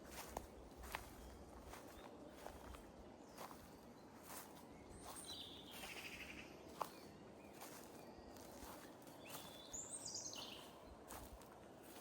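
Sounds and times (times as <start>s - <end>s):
faint footsteps on woodland floor: 0.0s - 6.1s, 6.7s - 12.0s.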